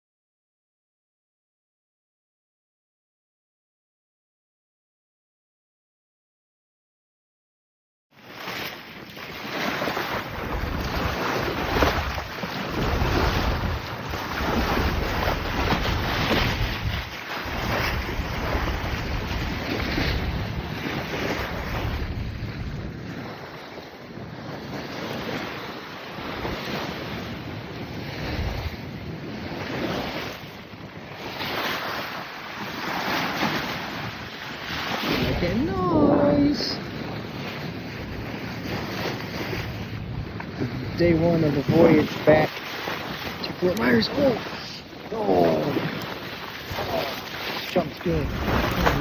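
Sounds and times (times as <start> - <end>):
waves rushing: 8.2 - 49.0
wind buffeting microphone: 9.3 - 49.0.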